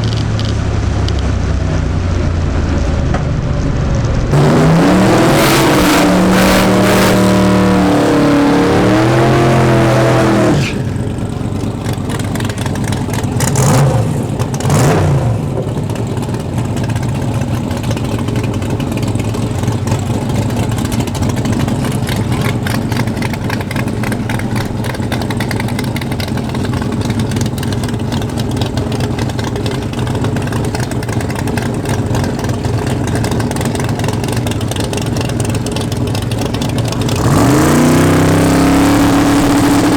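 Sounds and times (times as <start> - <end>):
engine rev blips: 0.0 - 15.8, 20.8 - 39.9
drag car engine at full throttle: 0.0 - 39.9
low engine rumble: 0.0 - 39.9.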